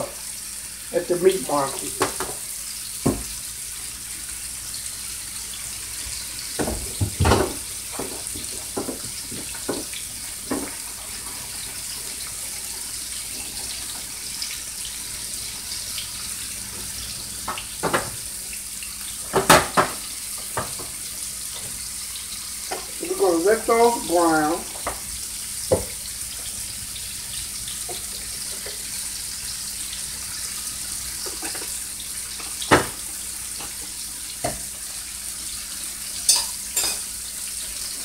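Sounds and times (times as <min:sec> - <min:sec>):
meat sizzling in a skillet: 0:00.0 - 0:38.0.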